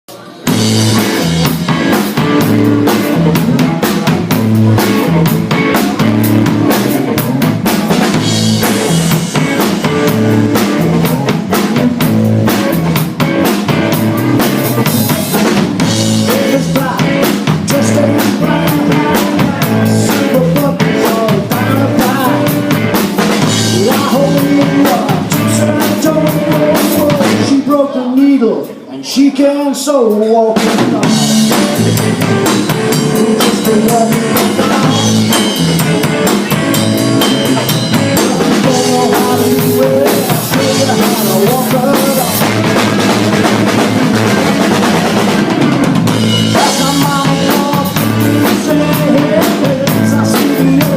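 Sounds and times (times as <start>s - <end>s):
drum kit beat: 0.1s - 27.6s, 30.6s - 50.9s
repeating bass line: 0.5s - 27.5s, 31.0s - 50.9s.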